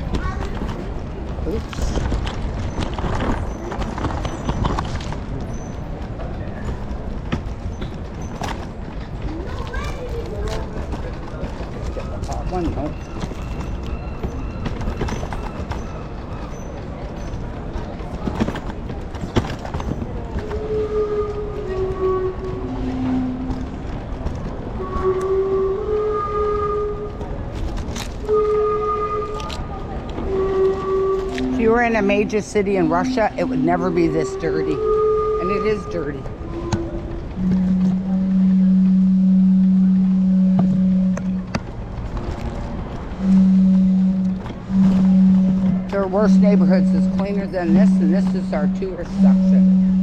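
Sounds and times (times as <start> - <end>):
low street rumble: 0.0 - 50.0.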